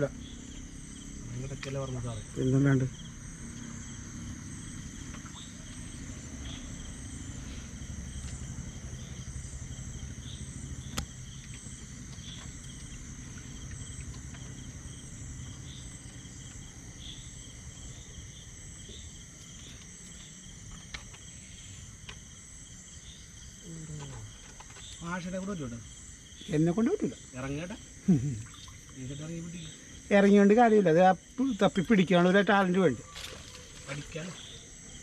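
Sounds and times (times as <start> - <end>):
crickets trilling: 0.0 - 35.0
insect chirps: 0.0 - 35.0.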